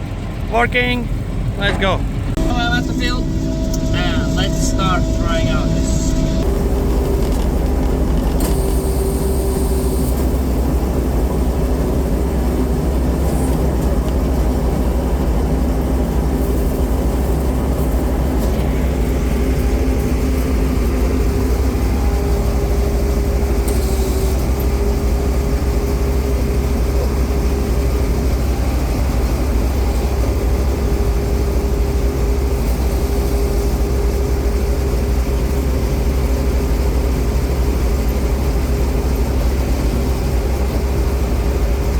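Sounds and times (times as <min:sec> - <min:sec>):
combine harvester engine drone: 0:00.0 - 0:41.9
machine drives humming: 0:00.0 - 0:41.9.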